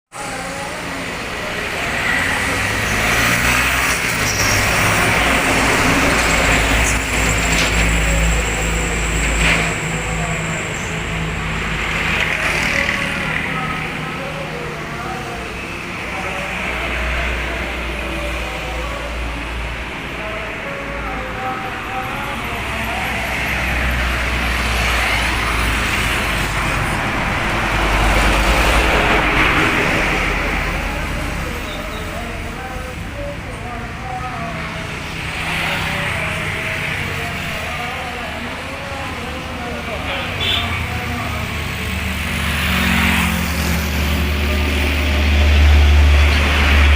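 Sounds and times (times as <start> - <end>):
cars passing: 0.1 - 46.9
motorbikes passing: 0.2 - 46.9.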